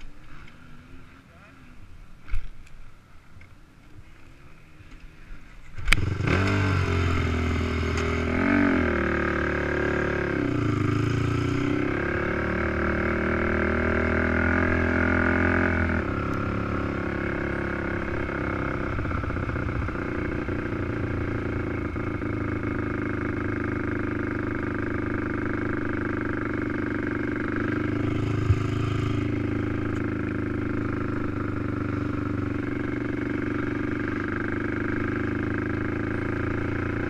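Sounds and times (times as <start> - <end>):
quad engine revving: 5.8 - 37.0.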